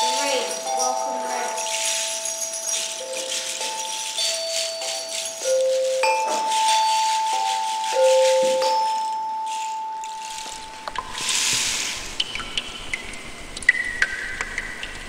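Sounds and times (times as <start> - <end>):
shaker rattle: 0.0 - 15.0.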